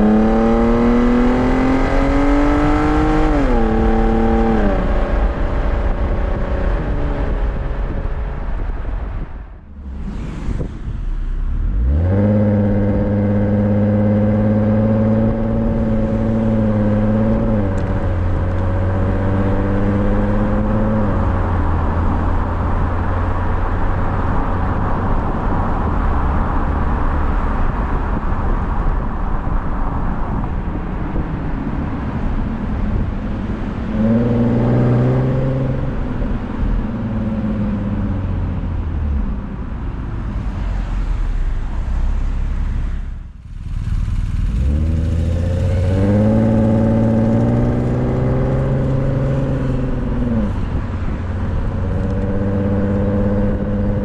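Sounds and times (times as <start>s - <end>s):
car engine driving: 0.0s - 54.0s.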